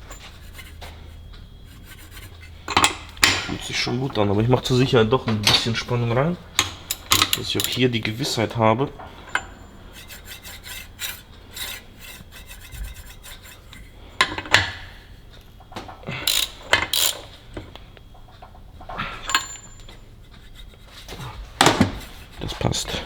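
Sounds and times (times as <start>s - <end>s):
metal parts clicking and scraping: 0.0s - 8.5s, 9.2s - 23.0s.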